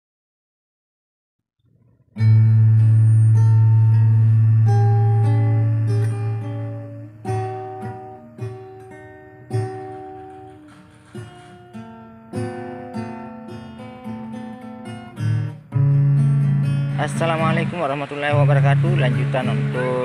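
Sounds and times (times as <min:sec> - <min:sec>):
acoustic guitar music: 0:01.6 - 0:20.0.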